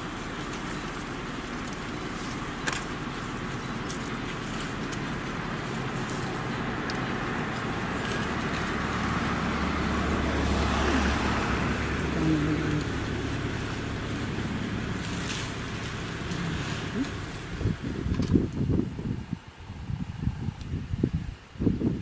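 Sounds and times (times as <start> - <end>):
vehicle engine droning: 0.0 - 21.3
road and wind noise: 0.0 - 22.0.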